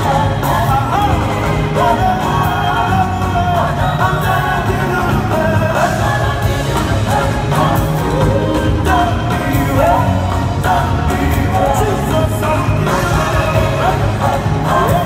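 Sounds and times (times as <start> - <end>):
choir singing: 0.0 - 15.0
live band bass and drums: 0.0 - 15.0.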